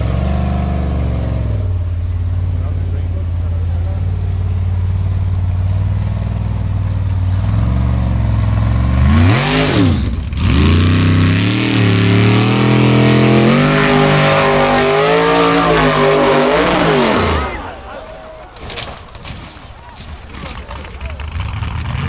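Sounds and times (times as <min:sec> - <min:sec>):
racing engine revving: 0:00.0 - 0:22.0.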